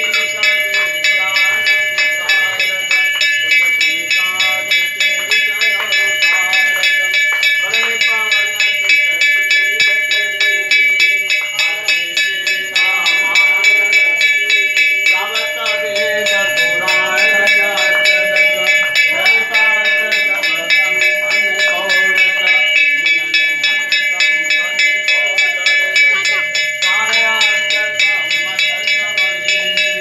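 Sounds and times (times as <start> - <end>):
bell ringing rapidly: 0.0 - 30.0
group singing a chant: 0.0 - 30.0.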